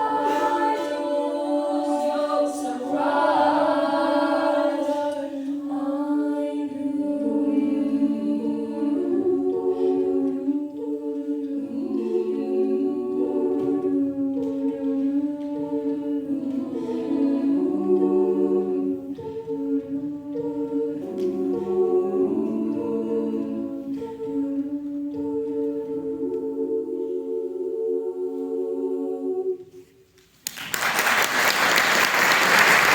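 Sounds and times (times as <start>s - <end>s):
a cappella group singing harmony: 0.0s - 30.2s.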